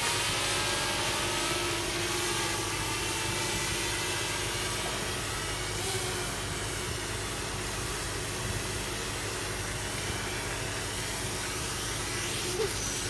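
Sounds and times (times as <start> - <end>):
quadcopter propellers buzzing: 0.0 - 13.0.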